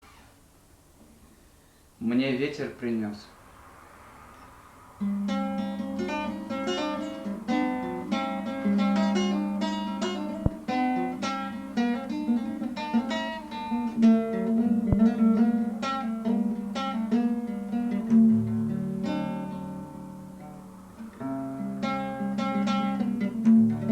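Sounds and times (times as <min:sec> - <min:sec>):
acoustic guitar playing: 0:03.3 - 0:23.9.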